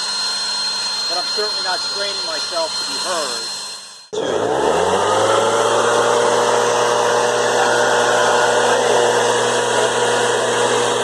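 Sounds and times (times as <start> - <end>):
leaf blower running: 0.0 - 11.0.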